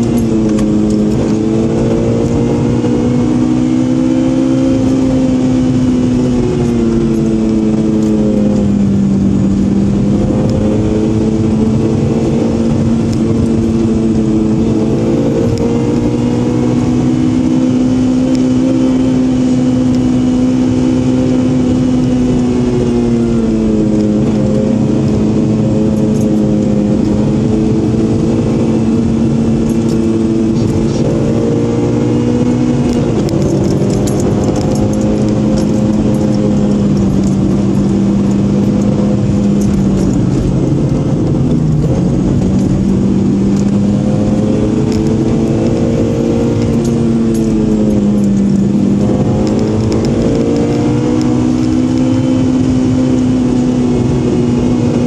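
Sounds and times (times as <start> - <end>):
car engine droning: 0.0 - 55.0
road and tyre noise: 0.0 - 55.0.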